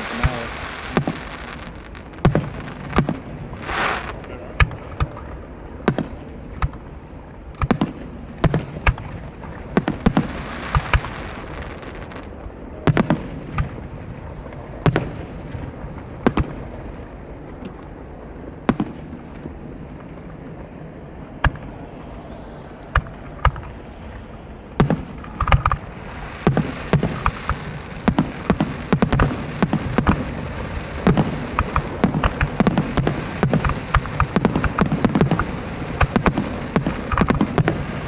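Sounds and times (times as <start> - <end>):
fireworks shells booming: 0.0 - 38.0.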